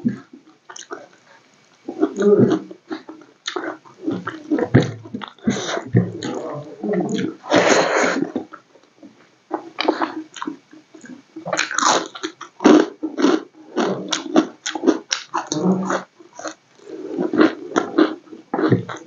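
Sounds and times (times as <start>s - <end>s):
person chewing and lip-smacking: 0.1s - 1.2s, 1.8s - 7.4s, 9.5s - 19.0s.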